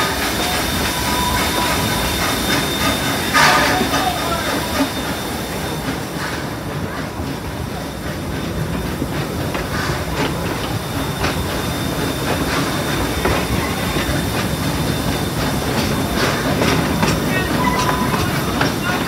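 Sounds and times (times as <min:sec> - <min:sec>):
rail joint clicks: 0:00.0 - 0:19.0
wheels rumbling on rail: 0:00.0 - 0:19.0.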